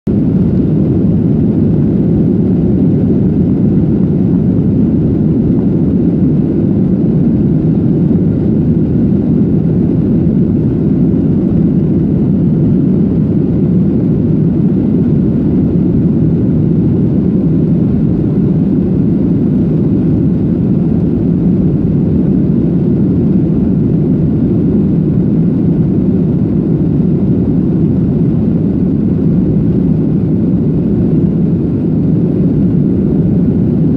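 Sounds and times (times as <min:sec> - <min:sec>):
jet engines rumbling in cabin: 0:00.1 - 0:33.9.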